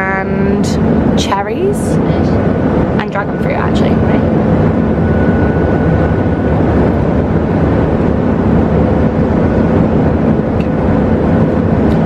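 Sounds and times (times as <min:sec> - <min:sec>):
faint steady hum: 0:00.0 - 0:12.0
jet engines rumbling: 0:00.0 - 0:12.0
rushing air: 0:00.7 - 0:12.0.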